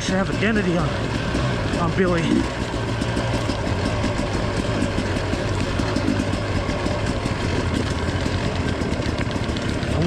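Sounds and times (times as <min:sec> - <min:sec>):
constant rushing noise: 0:00.0 - 0:10.0
dirt bike engine running: 0:00.0 - 0:10.0.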